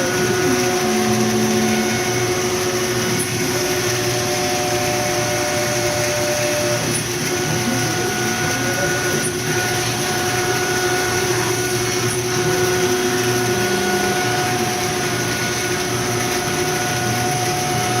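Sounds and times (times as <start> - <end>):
low hum changing pitch: 0.0 - 6.1, 7.7 - 17.9
machine motor whine: 0.0 - 18.0.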